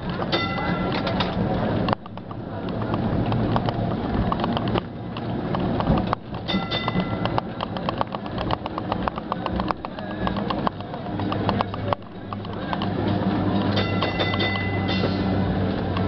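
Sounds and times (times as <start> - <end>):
tram car rattling and clicking: 0.0 - 16.0
tram motor hum: 0.0 - 16.0.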